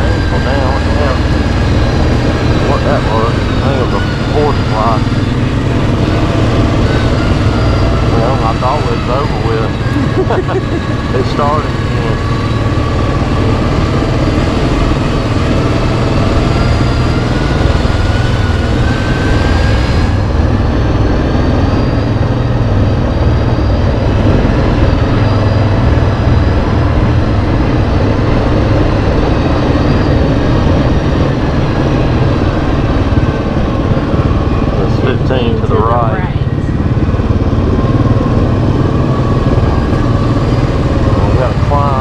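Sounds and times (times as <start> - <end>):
atv engine running: 0.0 - 42.0
thin rising whine: 0.0 - 42.0.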